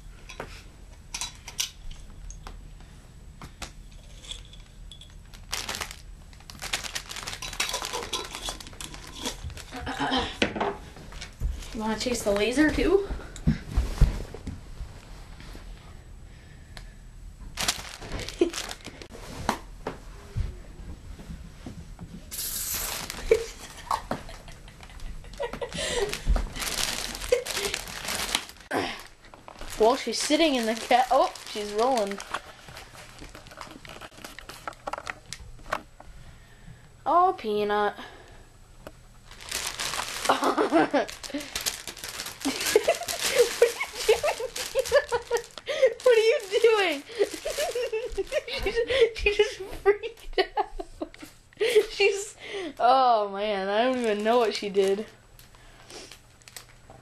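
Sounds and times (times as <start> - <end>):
rustling and crinkling: 2.0 - 15.8, 17.4 - 36.1, 38.8 - 49.3, 53.8 - 57.0.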